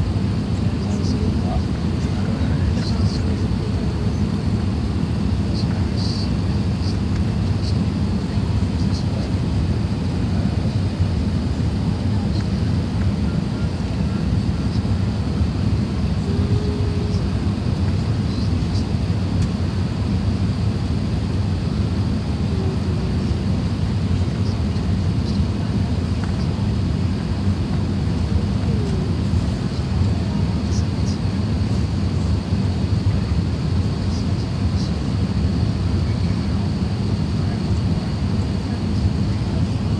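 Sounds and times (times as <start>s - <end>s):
cabin engine and airflow drone: 0.0s - 39.9s.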